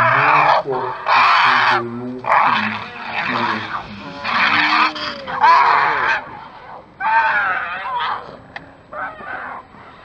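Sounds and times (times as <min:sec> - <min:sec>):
monkeys screaming: 0:00.0 - 0:09.6.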